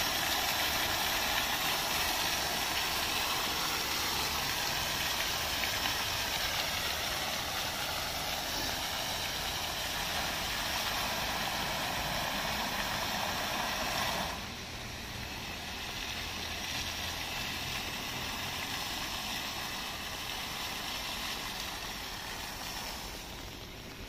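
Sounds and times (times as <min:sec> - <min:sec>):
fountain water splashing: 0:00.0 - 0:24.0.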